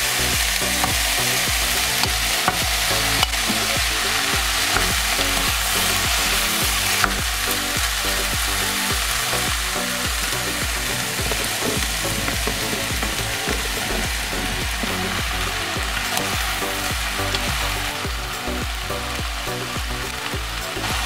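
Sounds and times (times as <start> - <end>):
vegetables sizzling in oil: 0.0 - 21.0
spatula stirring and knocking: 0.4 - 18.3.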